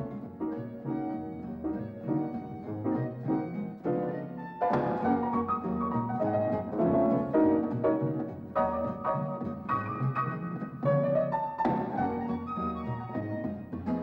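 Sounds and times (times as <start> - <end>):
piano film score music: 0.0 - 14.0.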